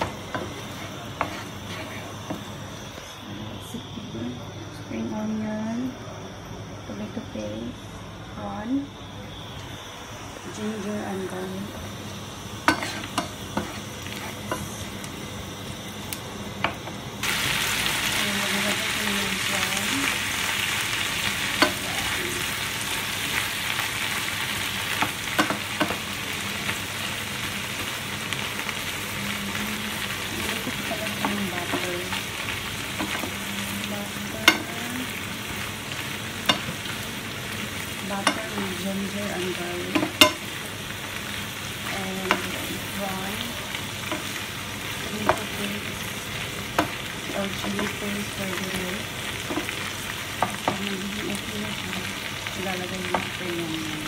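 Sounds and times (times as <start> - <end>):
garlic sizzling in butter: 0.0 - 3.9, 9.0 - 54.0.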